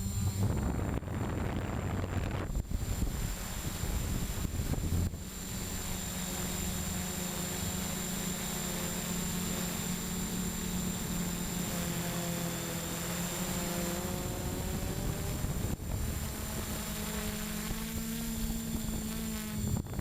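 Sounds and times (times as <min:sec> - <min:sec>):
drone rotor hum and whine: 0:00.0 - 0:20.0.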